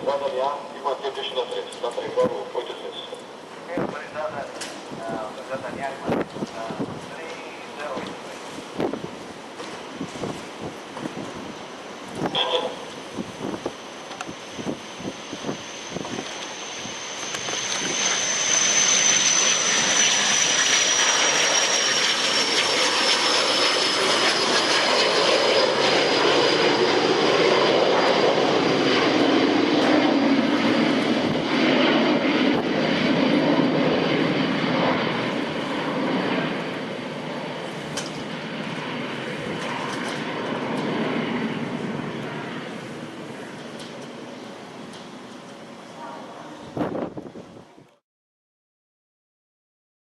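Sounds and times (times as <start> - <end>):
jet engines roaring on takeoff: 0.0 - 47.8.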